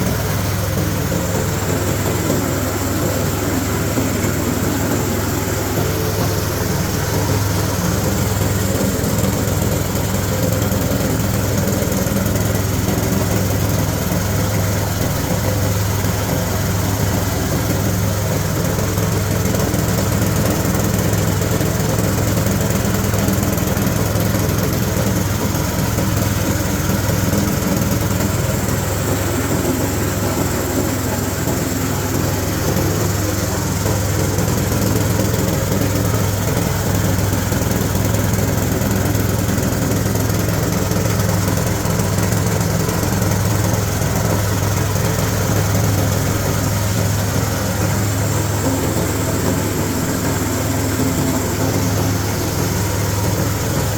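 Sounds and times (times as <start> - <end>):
diesel engine hum: 0.0 - 53.9
grinding mill rushing: 0.0 - 53.9.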